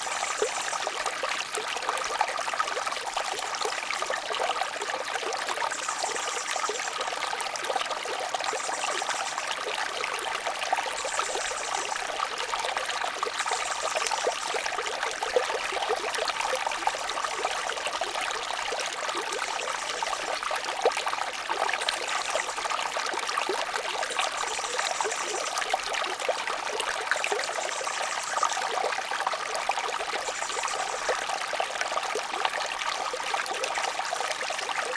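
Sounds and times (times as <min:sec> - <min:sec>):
brook water trickling over stones: 0:00.0 - 0:34.9.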